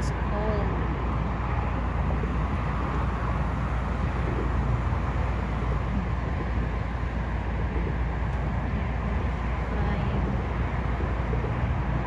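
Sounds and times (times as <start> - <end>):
low lakeshore ambience rumble: 0.0 - 12.0.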